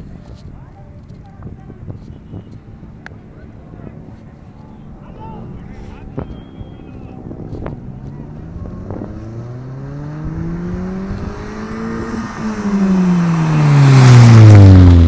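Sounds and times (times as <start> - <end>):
car exhaust accelerating: 1.1 - 15.0.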